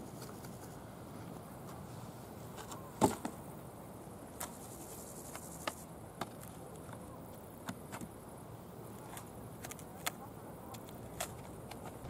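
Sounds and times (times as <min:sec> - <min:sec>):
insects chirring: 0:00.0 - 0:12.0
steady low hiss: 0:00.0 - 0:12.0.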